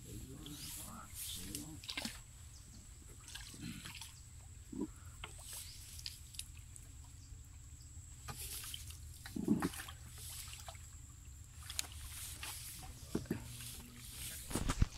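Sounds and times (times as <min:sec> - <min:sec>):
paddle pulling through water: 0:00.0 - 0:14.9
water splashes and drips: 0:00.2 - 0:14.8.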